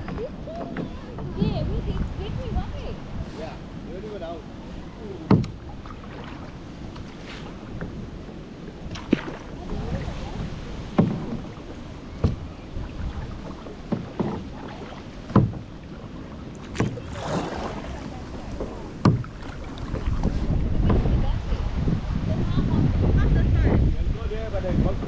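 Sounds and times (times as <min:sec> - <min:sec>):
paddle splashing water: 0:00.0 - 0:23.3
moving water washing: 0:00.0 - 0:25.0.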